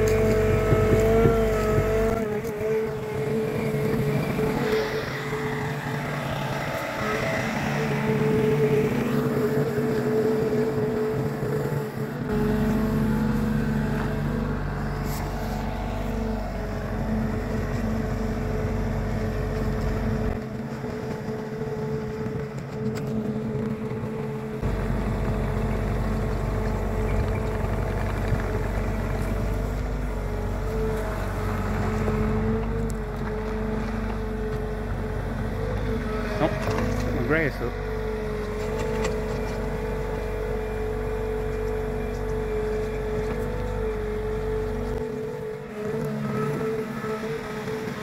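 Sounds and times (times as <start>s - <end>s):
deep rumble: 0.0s - 9.5s, 12.0s - 42.0s
diesel engine running with whine: 0.0s - 48.0s.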